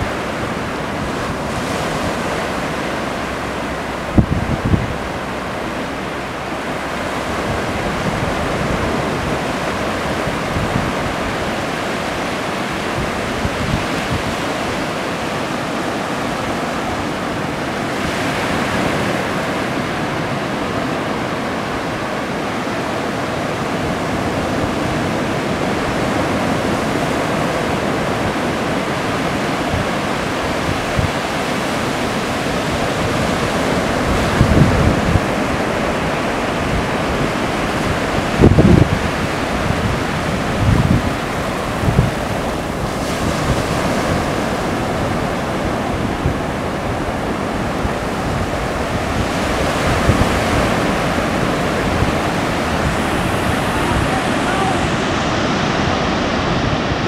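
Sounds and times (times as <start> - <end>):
ocean surf washing on sand: 0.0 - 57.0.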